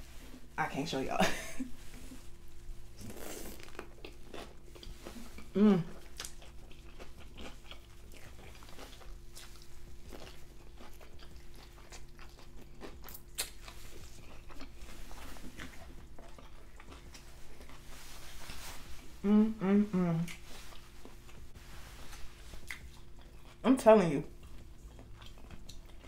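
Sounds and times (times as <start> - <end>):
faint steady hum: 0.0 - 26.0
person chewing food: 2.0 - 23.6, 24.3 - 26.0.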